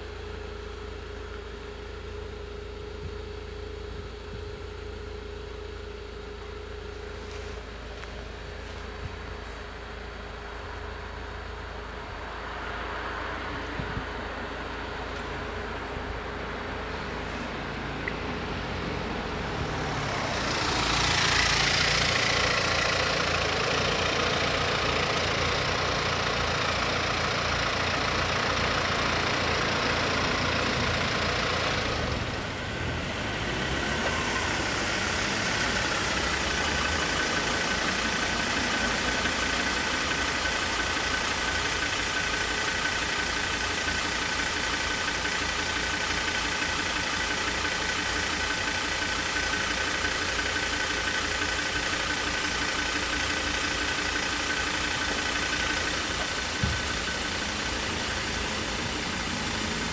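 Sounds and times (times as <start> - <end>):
car engines idling: 0.0 - 59.9.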